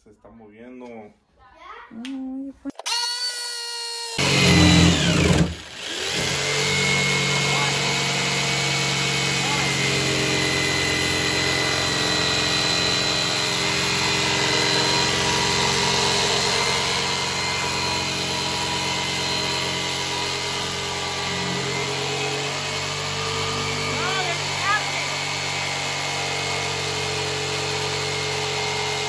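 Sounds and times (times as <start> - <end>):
jigsaw cutting wood: 4.1 - 29.0.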